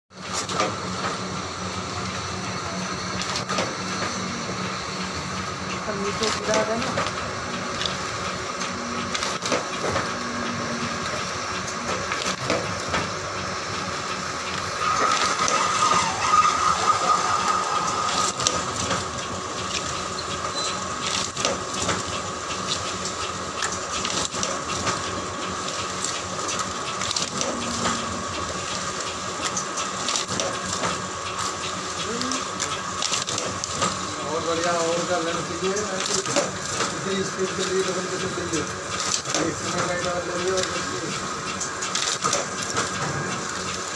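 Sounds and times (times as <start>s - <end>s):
machine motor whine: 0.2s - 43.9s.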